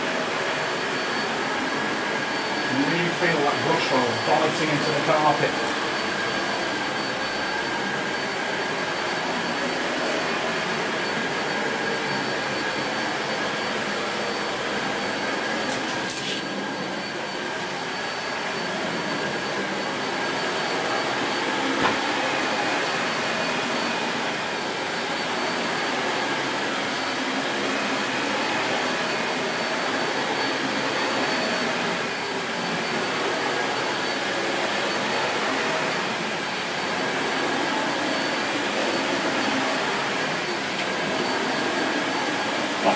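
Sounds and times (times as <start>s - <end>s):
vacuum cleaner on carpet: 0.0s - 42.9s.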